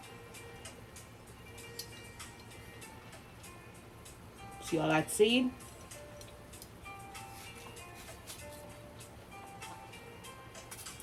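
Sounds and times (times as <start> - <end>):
background music with ticking beat: 0.0 - 11.0.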